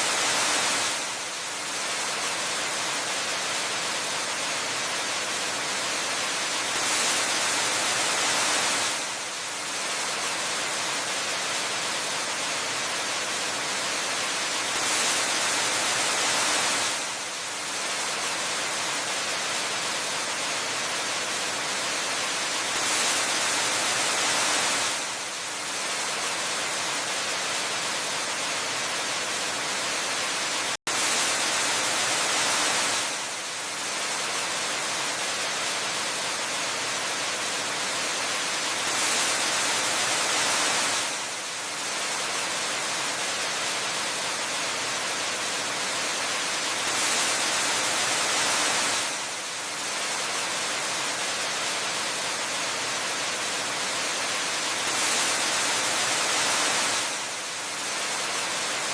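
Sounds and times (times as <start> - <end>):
waterfall hiss: 0.0 - 58.9.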